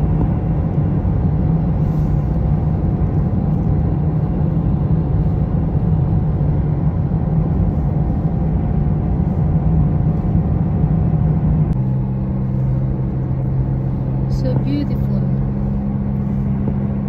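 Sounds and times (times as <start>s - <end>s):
car road and engine drone: 0.0s - 17.0s.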